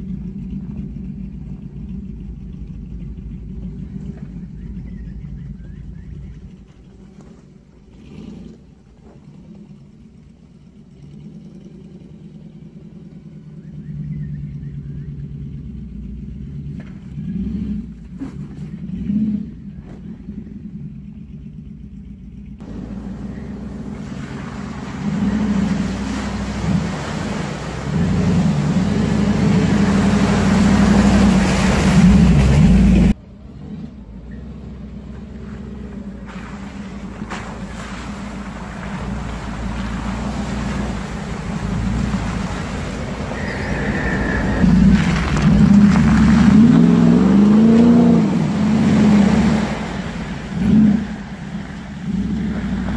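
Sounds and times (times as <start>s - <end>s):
engine revving: 0.0s - 52.9s.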